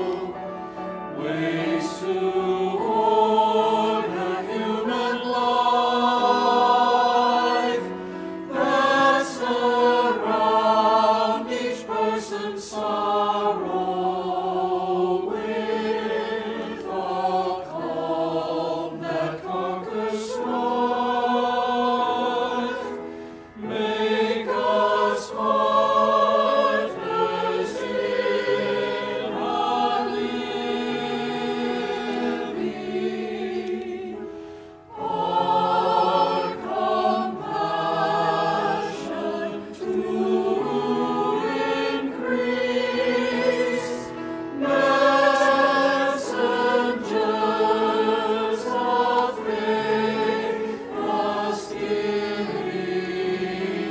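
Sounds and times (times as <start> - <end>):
church choir singing: 0.0 - 53.9.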